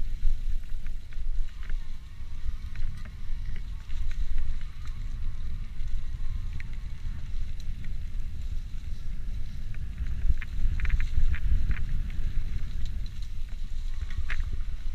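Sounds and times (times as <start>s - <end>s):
bike clicks and rattles: 0.0s - 14.9s
wind buffeting microphone: 0.0s - 14.9s.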